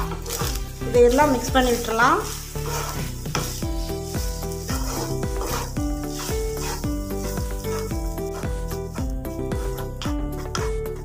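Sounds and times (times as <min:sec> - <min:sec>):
background music with steady beat: 0:00.0 - 0:11.0
light sizzle: 0:00.0 - 0:11.0
spatula stirring rice in pan: 0:00.0 - 0:11.0.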